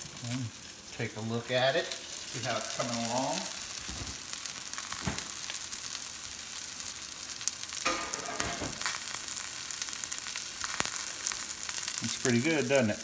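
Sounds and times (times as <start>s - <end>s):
cutlets sizzling in oil: 0.0s - 13.0s.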